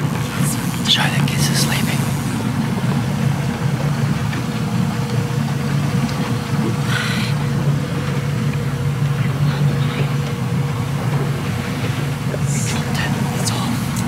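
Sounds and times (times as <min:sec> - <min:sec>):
boat engine humming: 0:00.0 - 0:14.0
faint steady whine: 0:00.0 - 0:14.0.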